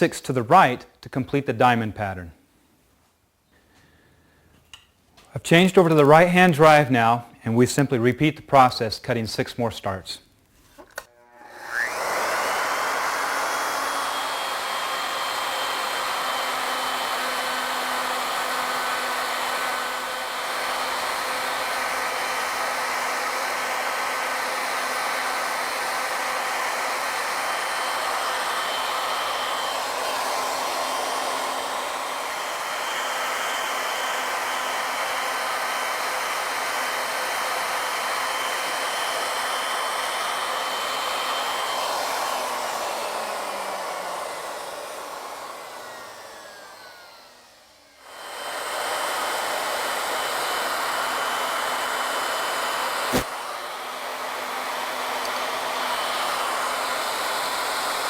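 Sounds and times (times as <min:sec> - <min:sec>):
router whining cutting wood: 0:10.8 - 0:58.0.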